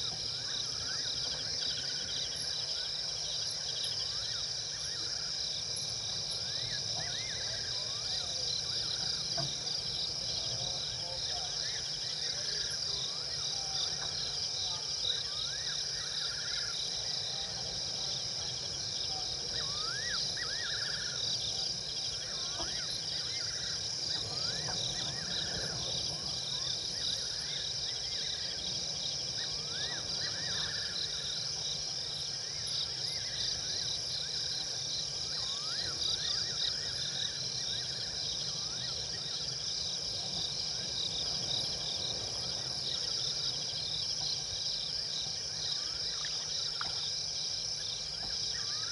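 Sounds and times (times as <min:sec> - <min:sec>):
crickets and insects trilling: 0:00.0 - 0:48.9.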